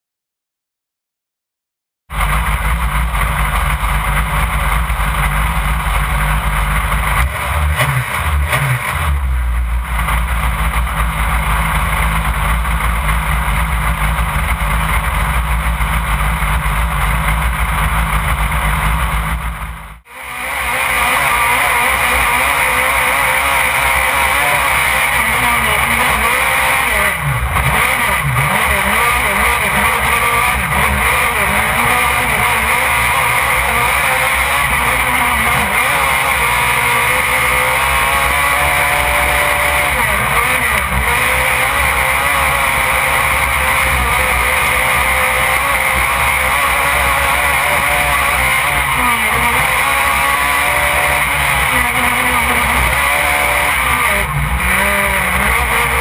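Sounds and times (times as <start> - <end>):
truck engine running hard: 2.1 - 56.0
wind: 2.1 - 56.0.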